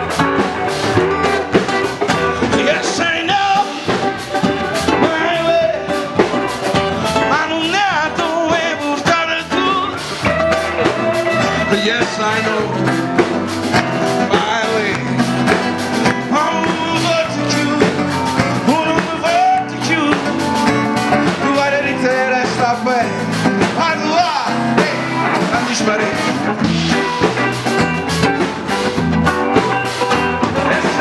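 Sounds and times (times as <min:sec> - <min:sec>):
bass guitar: 0:00.0 - 0:31.0
drum kit beat: 0:00.0 - 0:31.0
electric guitars: 0:00.0 - 0:31.0
man singing: 0:02.0 - 0:28.1, 0:30.0 - 0:31.0.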